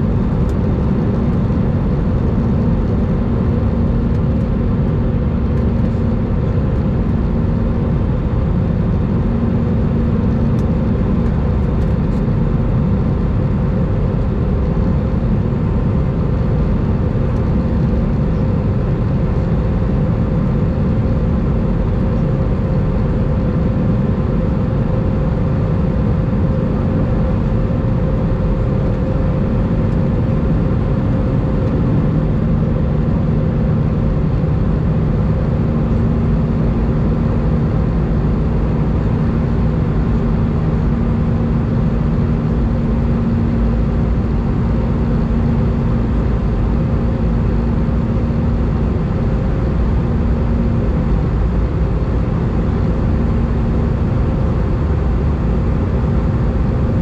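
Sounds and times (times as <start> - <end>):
airplane cabin rumble: 0.0 - 57.0
lower hum: 0.0 - 57.0
steady hum: 0.0 - 57.0.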